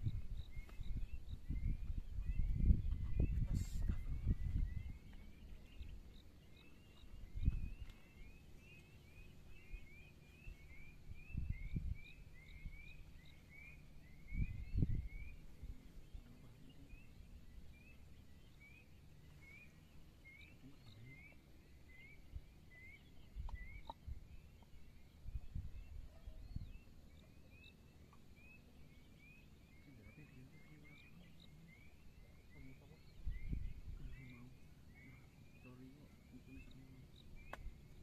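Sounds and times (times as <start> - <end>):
bird chirping: 0.0 - 38.0
faint outdoor hiss: 0.0 - 38.0.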